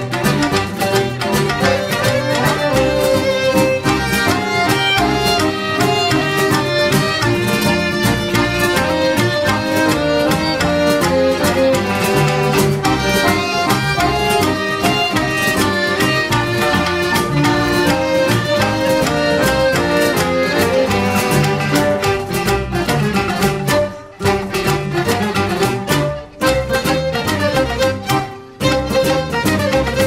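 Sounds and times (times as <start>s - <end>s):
fiddle folk music: 0.0s - 30.0s
rhythmic accompaniment: 0.0s - 30.0s.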